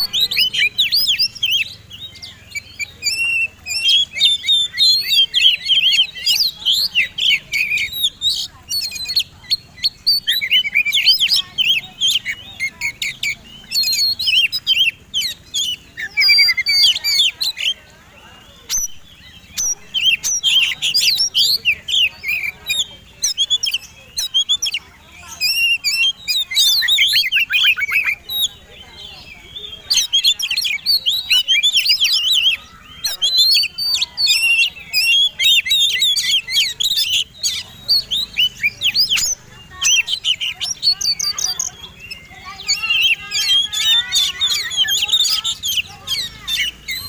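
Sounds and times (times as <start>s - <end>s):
bird singing whistles and trills: 0.0s - 47.0s.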